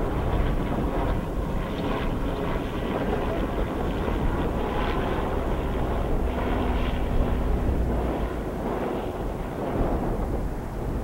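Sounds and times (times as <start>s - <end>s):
helicopter flying overhead: 0.0s - 11.0s.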